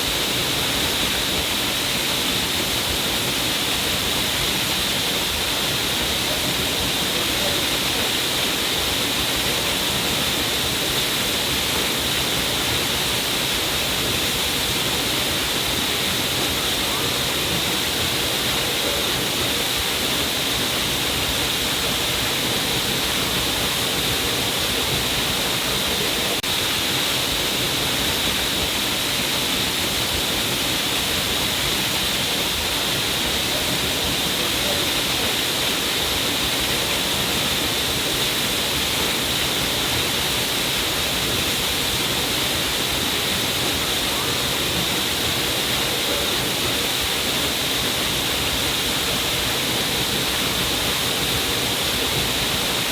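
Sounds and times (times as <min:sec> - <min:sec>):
small waterfall splashing: 0:00.0 - 0:52.9.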